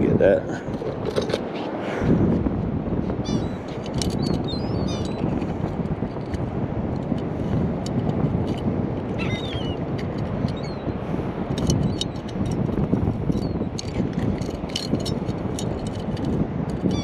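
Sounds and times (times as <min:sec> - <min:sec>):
surf roaring: 0:00.0 - 0:17.0
wind buffeting microphone: 0:00.0 - 0:17.0.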